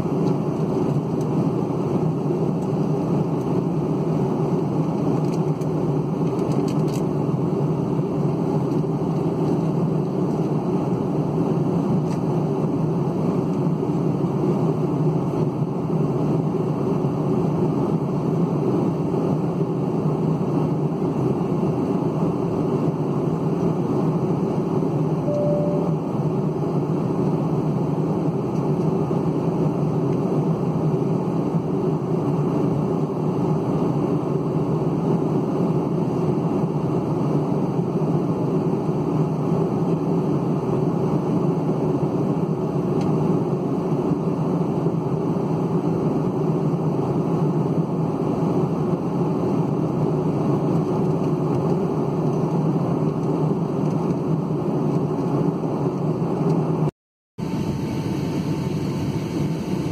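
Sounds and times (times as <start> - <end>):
airplane cabin engine hum: 0.0 - 59.9.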